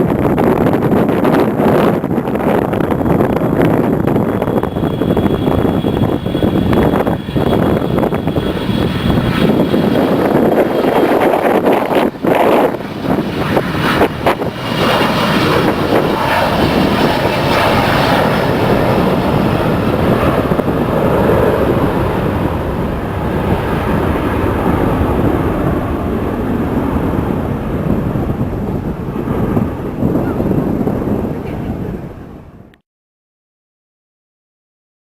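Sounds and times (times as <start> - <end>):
jet engines at take-off: 0.0 - 32.7
wind buffeting microphone: 0.0 - 32.7.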